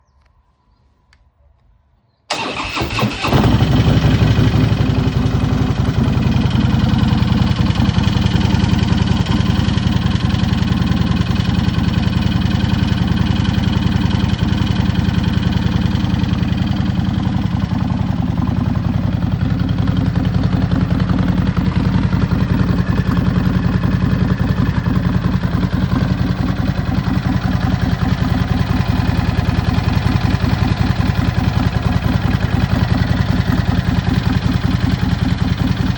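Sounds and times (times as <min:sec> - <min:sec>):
engine rattle: 0:02.3 - 0:35.9
motorcycle engine idling: 0:02.3 - 0:35.9.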